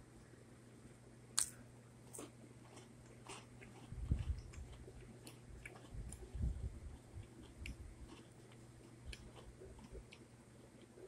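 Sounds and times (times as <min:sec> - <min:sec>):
person chewing cookies: 0:01.4 - 0:11.0.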